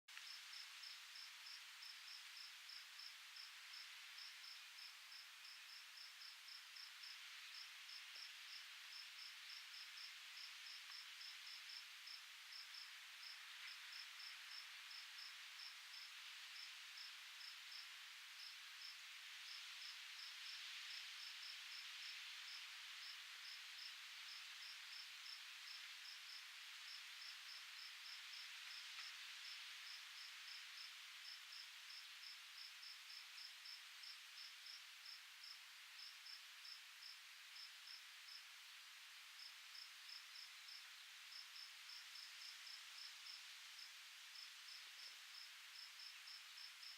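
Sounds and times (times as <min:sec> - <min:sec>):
faint wind hiss: 0:00.1 - 0:46.9
cricket chirping: 0:00.2 - 0:38.5, 0:39.3 - 0:46.9.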